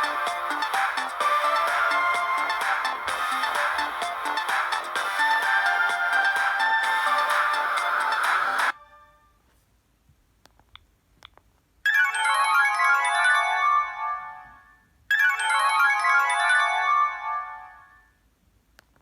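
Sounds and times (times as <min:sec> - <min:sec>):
phone ringtone: 0:00.0 - 0:09.0, 0:11.9 - 0:18.1.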